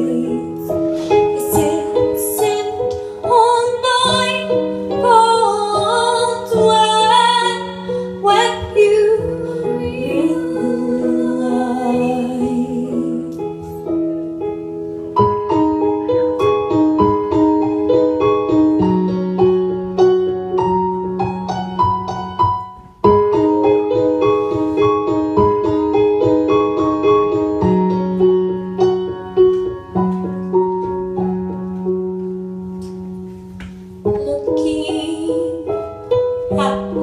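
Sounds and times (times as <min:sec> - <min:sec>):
solo piano music: 0:00.0 - 0:37.0.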